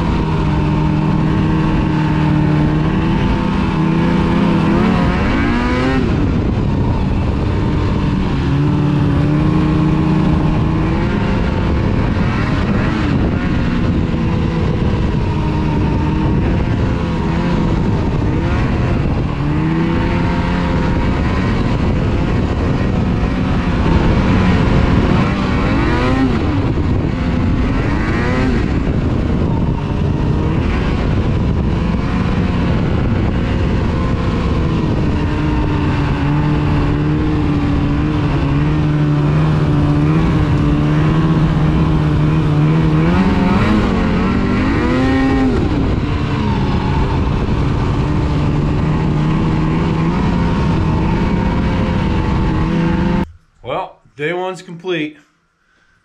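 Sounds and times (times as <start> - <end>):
snowmobile engine revving: 0.0 - 55.2
steady rushing noise: 0.0 - 56.0.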